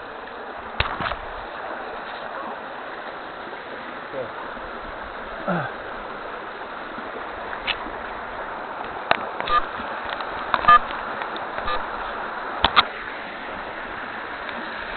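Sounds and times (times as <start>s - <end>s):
stream rushing over rocks: 0.0s - 14.9s.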